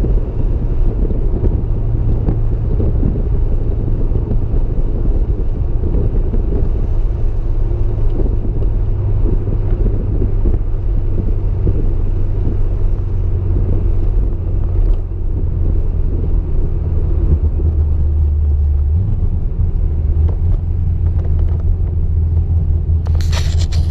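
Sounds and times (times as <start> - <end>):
car engine running: 0.0 - 23.9
road rumble: 0.0 - 23.9.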